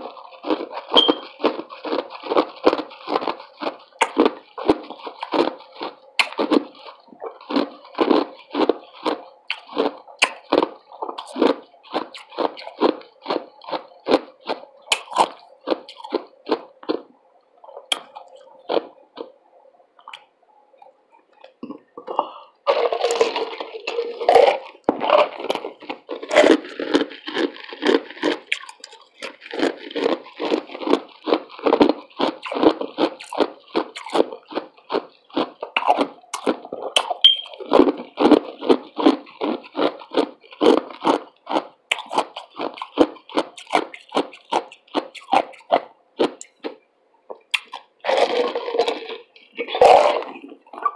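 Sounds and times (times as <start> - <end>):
ice crunching in mouth: 0.0 - 19.4, 21.3 - 50.9.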